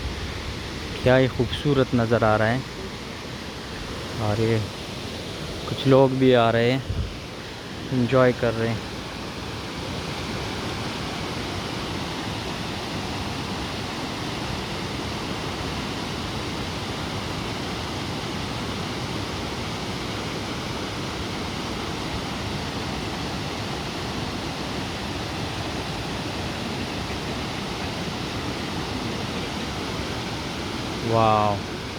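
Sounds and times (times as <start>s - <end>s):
waterfall roaring: 0.0s - 31.9s.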